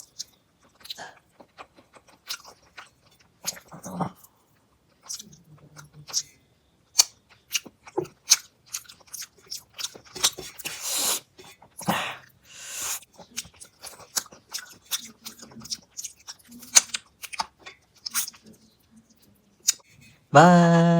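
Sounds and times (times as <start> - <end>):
person chewing food: 0.0 - 6.4, 7.0 - 20.9.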